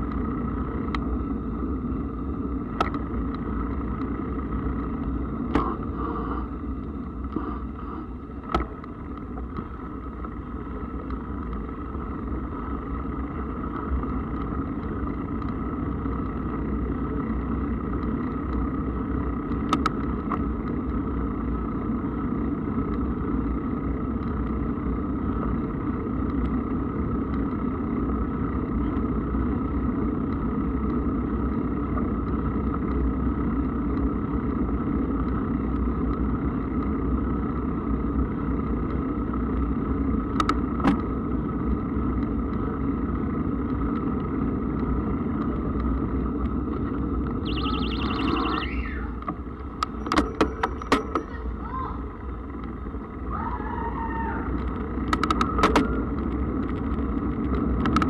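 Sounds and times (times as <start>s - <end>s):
mountain bike rolling rumble: 0.0s - 58.0s.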